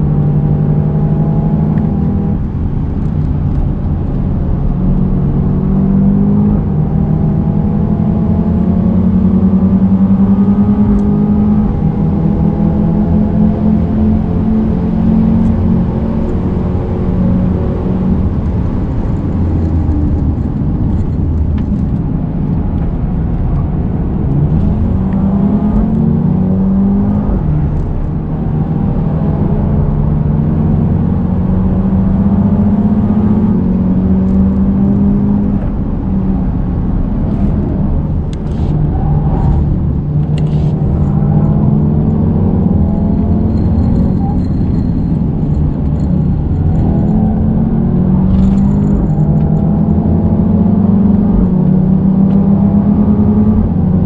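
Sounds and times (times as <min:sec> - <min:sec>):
car engine under hard acceleration: 0:00.0 - 0:54.0.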